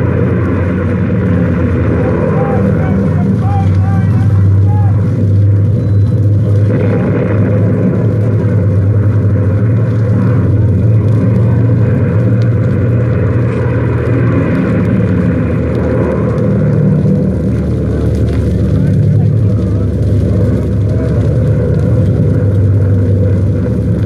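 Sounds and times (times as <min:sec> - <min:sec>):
piston aircraft engines droning: 0:00.0 - 0:24.0.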